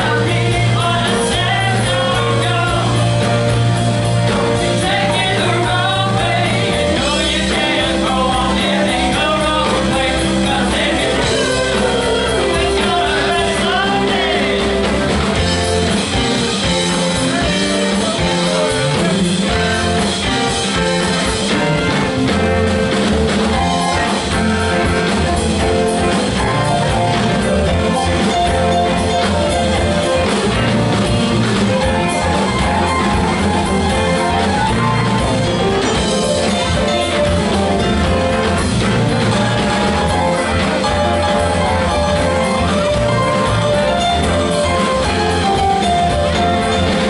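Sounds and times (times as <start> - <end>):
lead vocals: 0.0 - 22.0, 23.8 - 47.0
bass guitar: 0.0 - 47.0
drum kits: 0.0 - 47.0
electric guitars: 0.0 - 47.0
keyboards: 0.0 - 47.0.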